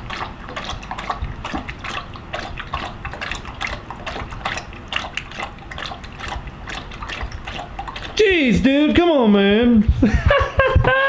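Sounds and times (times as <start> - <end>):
dog lapping water from metal bowl: 0.0 - 9.1.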